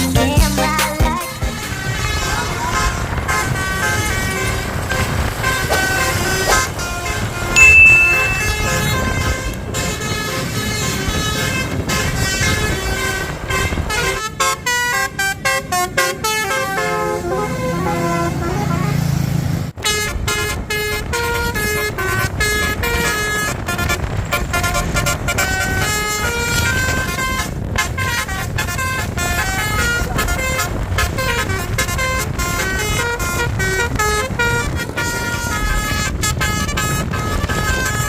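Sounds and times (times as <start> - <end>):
multi-tone bus horn melody: 0.0 - 38.0.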